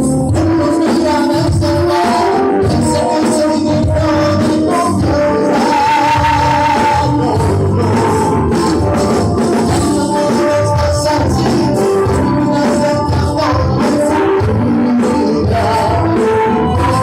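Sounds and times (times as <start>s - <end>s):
live pop band music: 0.0s - 17.0s
person singing: 0.0s - 17.0s.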